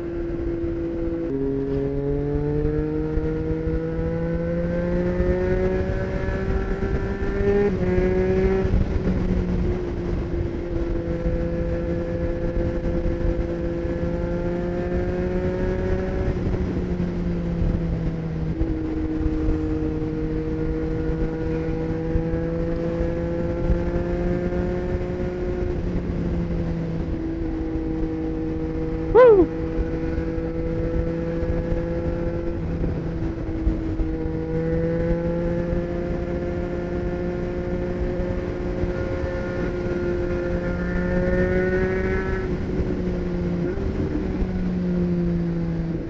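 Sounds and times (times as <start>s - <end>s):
motorcycle engine at speed: 0.0s - 46.0s
wind noise: 0.0s - 46.0s.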